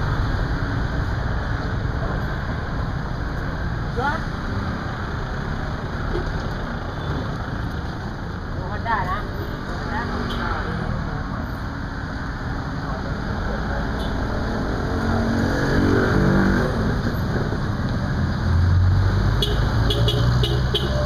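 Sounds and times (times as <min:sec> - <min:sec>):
cars and motorbikes passing: 0:00.0 - 0:21.0.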